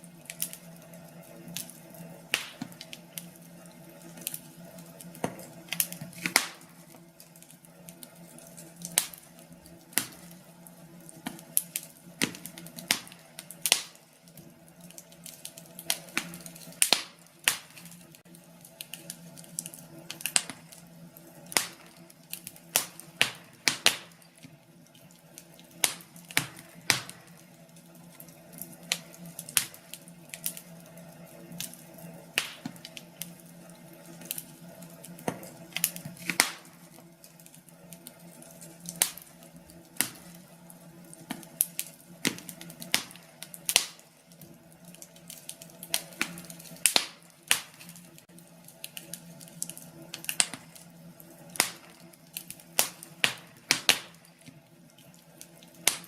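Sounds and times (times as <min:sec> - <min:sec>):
faint steady hum: 0:00.0 - 0:56.0
wood fire crackling and popping: 0:00.0 - 0:56.0.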